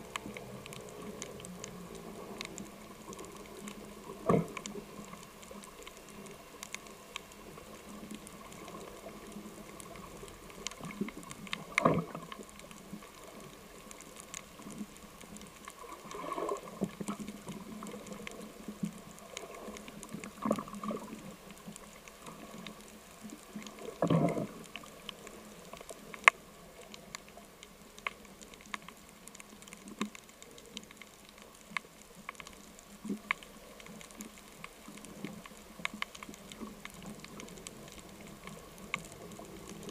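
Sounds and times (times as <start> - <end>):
small sharp underwater clicks: 0.0 - 39.9
underwater low hiss: 0.0 - 39.9.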